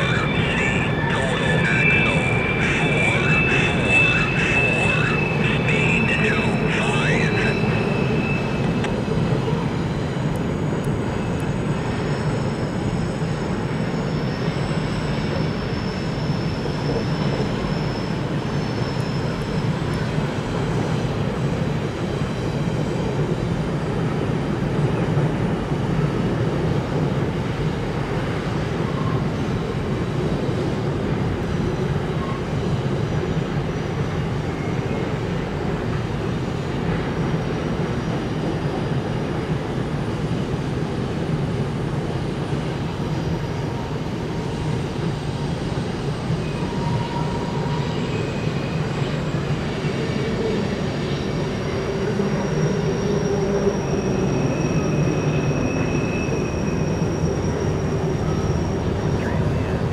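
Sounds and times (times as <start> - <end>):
faint high wheel squeal: 0.0 - 23.2, 27.7 - 59.9
freight train wheels rumbling on rail: 0.0 - 59.9.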